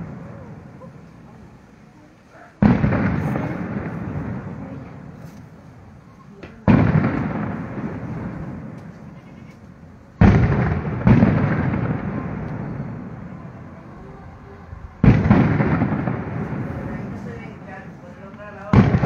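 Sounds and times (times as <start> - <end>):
firework shells booming: 0.0 - 1.4, 2.6 - 19.0.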